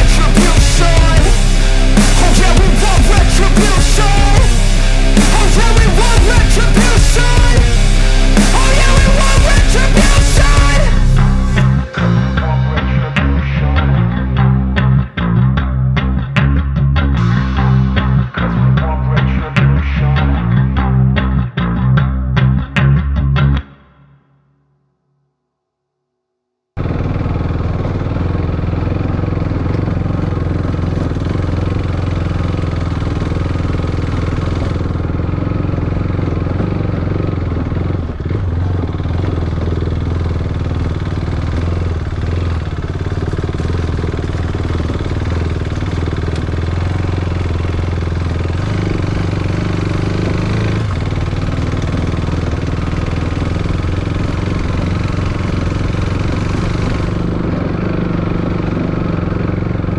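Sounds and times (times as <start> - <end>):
motorcycle engine running: 0.0 - 22.0, 26.8 - 59.9.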